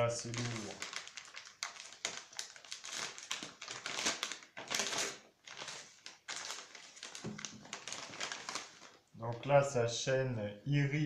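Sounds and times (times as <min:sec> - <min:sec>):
plastic bag rustling and crinkling: 0:00.0 - 0:09.5.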